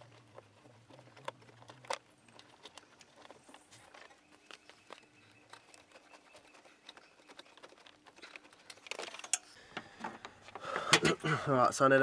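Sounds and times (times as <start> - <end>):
hands handling wiring: 0.0 - 11.2.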